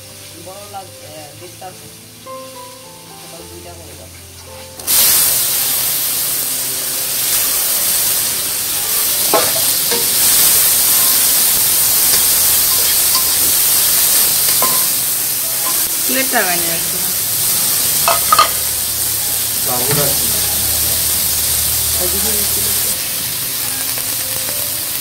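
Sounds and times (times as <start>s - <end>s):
onions sizzling in hot oil: 0.0s - 25.0s.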